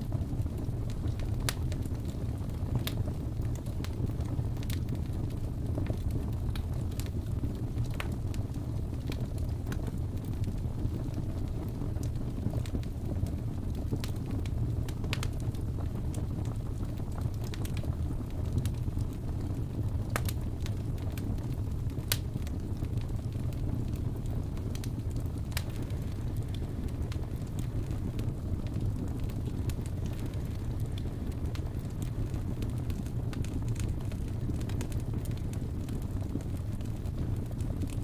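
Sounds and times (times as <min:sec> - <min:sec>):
fire pops and crackles: 0:00.0 - 0:38.0
wood fire rumbling: 0:00.0 - 0:38.0.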